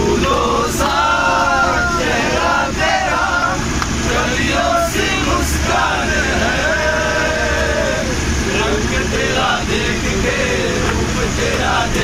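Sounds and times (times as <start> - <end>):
bus engine rumble: 0.0 - 12.0
men singing together: 0.0 - 12.0.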